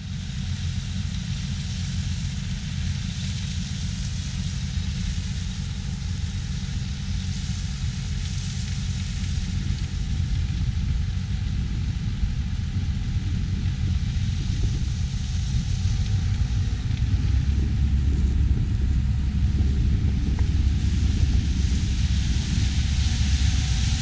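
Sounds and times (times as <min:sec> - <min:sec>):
hiss: 0:00.1 - 0:24.0
harvest machinery rumbling: 0:01.5 - 0:24.0.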